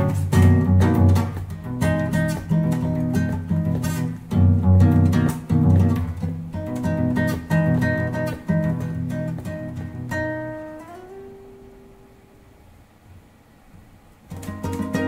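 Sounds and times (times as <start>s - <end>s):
plucked guitar notes: 0.0s - 12.4s, 14.3s - 15.0s.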